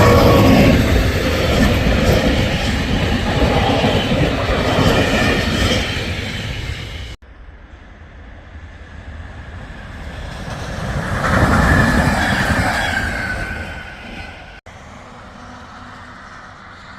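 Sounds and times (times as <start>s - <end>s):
train running on rails: 0.0s - 16.9s.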